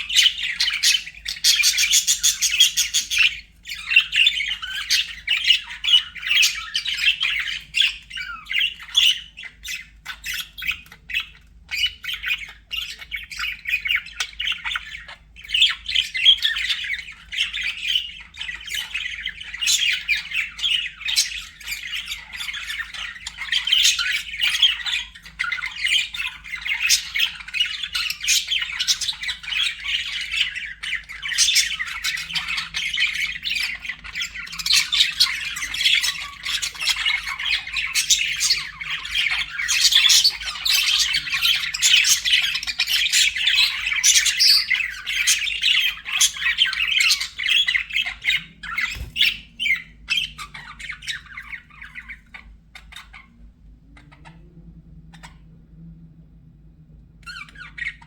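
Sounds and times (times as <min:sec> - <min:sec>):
budgerigars chattering: 0:00.0 - 0:53.3, 0:57.3 - 0:58.0.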